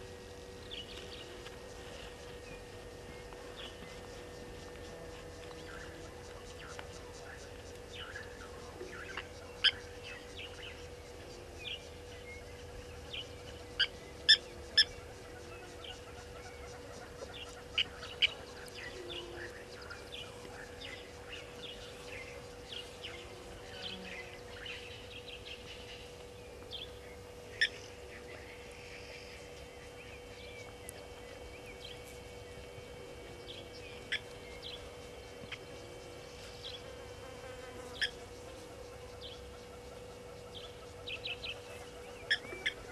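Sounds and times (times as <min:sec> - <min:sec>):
faint bird chirps: 0:00.0 - 0:42.9
steady faint hum: 0:00.0 - 0:42.9.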